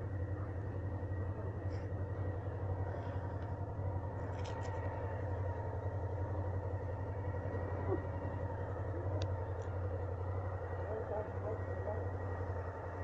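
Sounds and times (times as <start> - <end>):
muffled motorcycle engines idling: 0.0 - 13.0.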